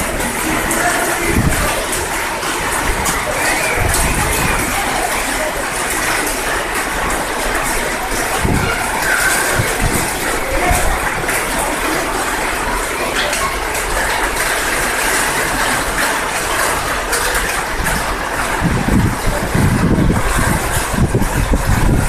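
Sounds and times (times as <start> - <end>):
wind gusts buffeting microphone: 0.0 - 12.8, 15.1 - 22.0
heavy rain: 0.0 - 22.0.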